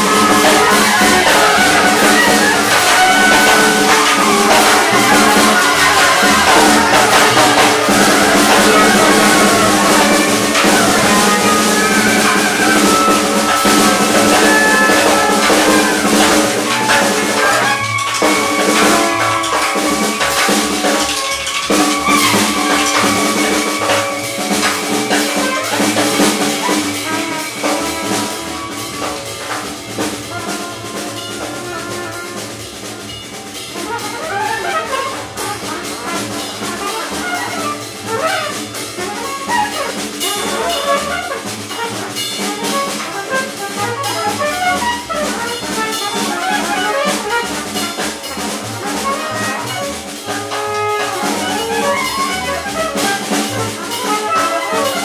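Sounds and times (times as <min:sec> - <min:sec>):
free jazz ensemble: 0:00.0 - 0:55.0.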